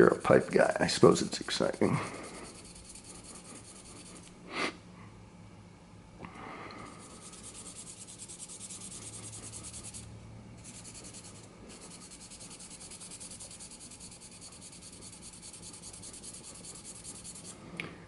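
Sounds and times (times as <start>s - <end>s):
sandpaper scratching pipe stem: 0.0s - 4.3s, 7.0s - 17.6s.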